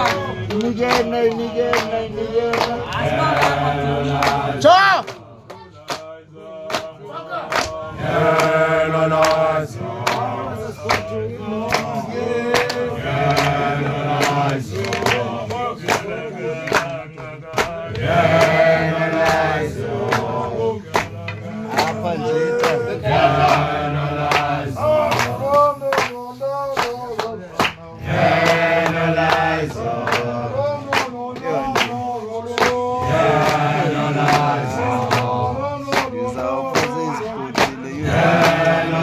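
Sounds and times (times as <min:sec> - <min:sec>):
group singing and chanting: 0:00.0 - 0:39.0.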